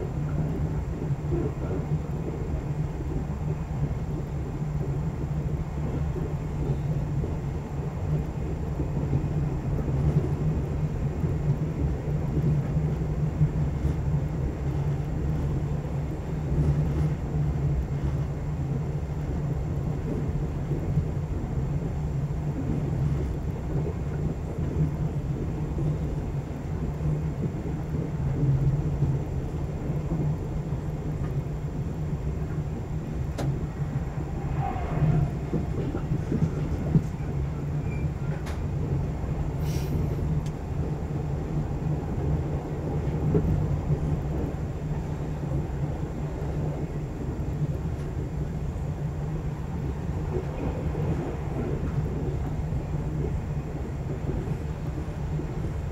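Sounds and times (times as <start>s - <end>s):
train rumbling over rails: 0.0s - 55.9s.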